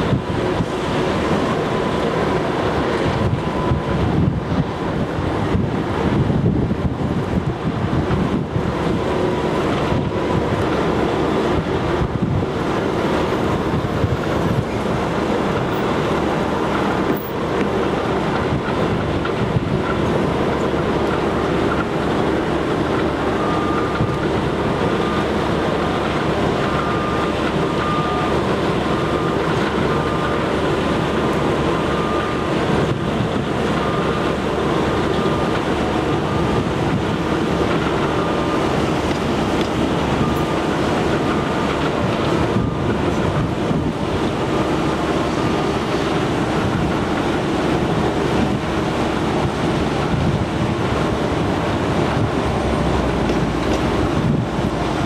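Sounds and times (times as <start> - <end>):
wind on microphone: 0.0 - 26.6, 32.3 - 55.0
construction machinery rumble: 0.0 - 55.0.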